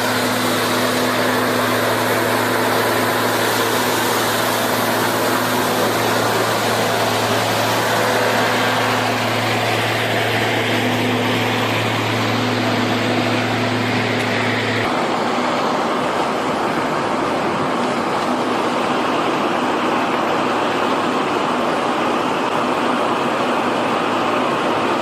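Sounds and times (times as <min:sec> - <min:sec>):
heavy machinery engine running: 0:00.0 - 0:25.0.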